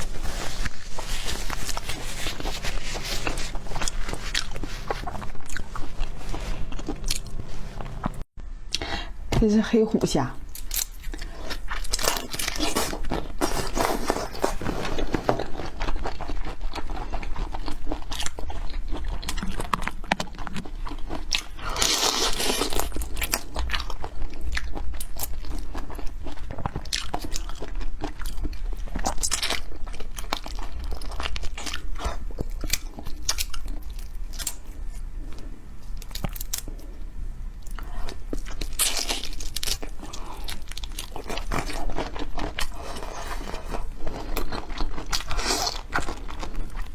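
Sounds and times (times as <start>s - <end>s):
crunching and chewing: 0.0s - 8.8s, 10.5s - 37.0s, 37.6s - 46.9s.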